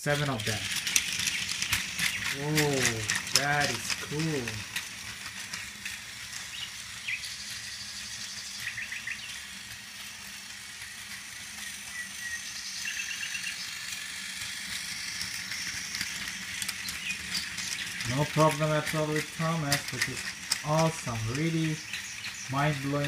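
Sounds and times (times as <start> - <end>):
toy train motor humming: 0.0 - 23.0
wheels rattling on plastic track: 0.0 - 23.0.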